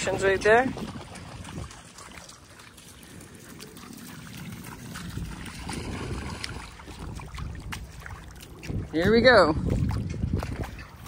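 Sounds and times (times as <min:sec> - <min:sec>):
river water trickling and splashing: 0:00.0 - 0:11.0
wind rumble on microphone: 0:00.0 - 0:11.0.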